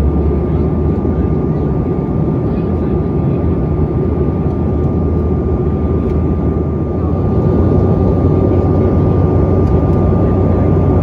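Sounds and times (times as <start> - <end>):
low rumble of engines: 0.0 - 11.0.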